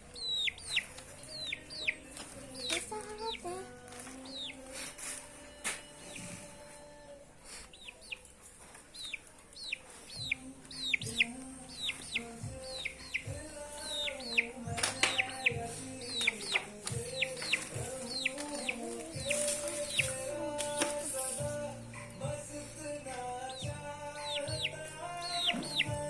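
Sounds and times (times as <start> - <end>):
chicken peeping: 0.0 - 5.2, 5.9 - 26.0
slow song with held notes: 0.0 - 26.0.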